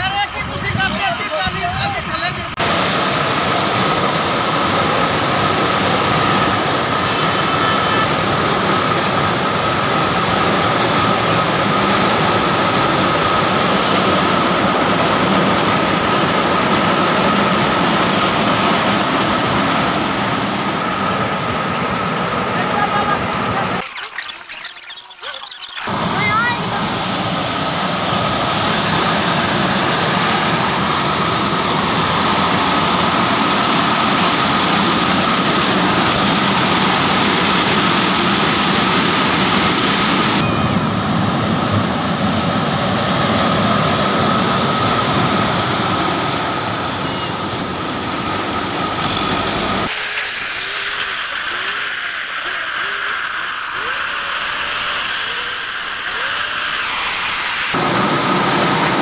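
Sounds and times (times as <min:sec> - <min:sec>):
constant high whine: 0:00.0 - 0:59.0
harvester machine drone: 0:00.0 - 0:59.0.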